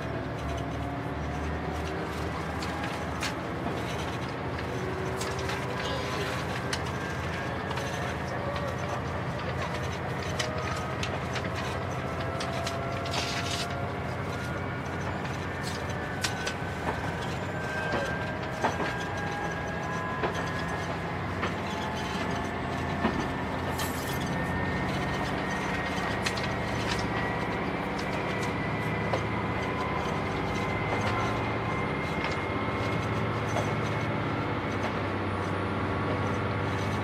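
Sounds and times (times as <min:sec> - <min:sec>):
diesel railcar engine drone: 0:00.0 - 0:37.0
wheels clicking over rail joints: 0:00.0 - 0:37.0.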